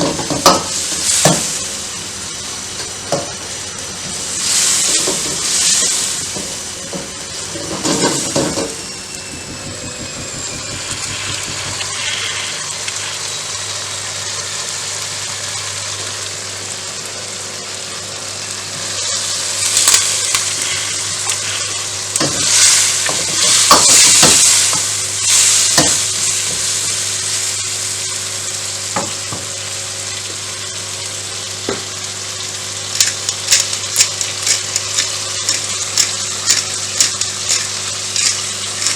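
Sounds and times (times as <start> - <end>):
food sizzling in a hot pan: 0.0 - 38.9.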